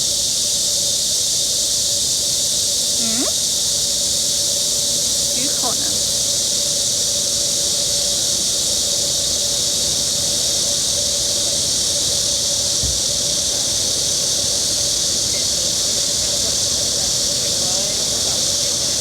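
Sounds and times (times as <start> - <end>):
insects chorus hissing: 0.0 - 19.0.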